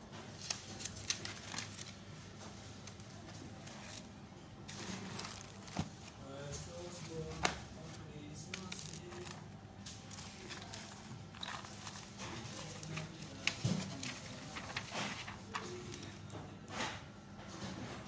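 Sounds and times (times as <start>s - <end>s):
paper rustles: 0.2s - 4.1s, 4.7s - 6.2s, 6.9s - 16.4s
booklet pages turning: 0.3s - 4.1s, 4.7s - 6.2s, 6.9s - 16.3s.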